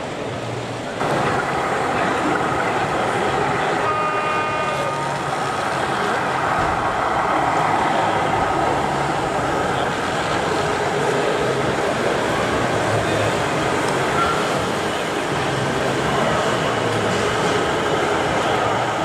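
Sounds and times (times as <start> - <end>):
busy exhibition hall din: 0.0 - 19.0.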